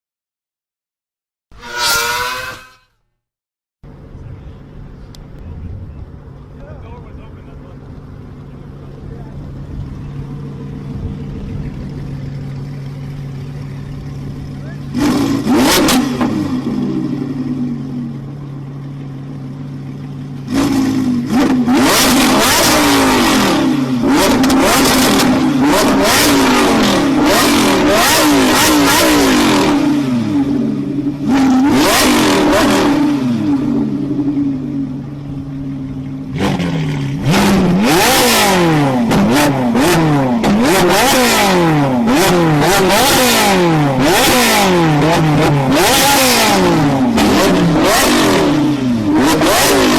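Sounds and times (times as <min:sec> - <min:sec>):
supercar engine idling and revving: 0:03.8 - 0:49.9.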